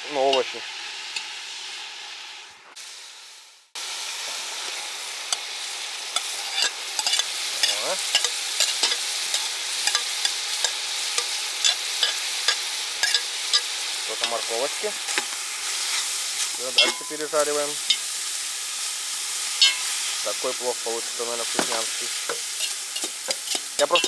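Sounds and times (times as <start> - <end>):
meat sizzling with pops: 0.0 - 24.0.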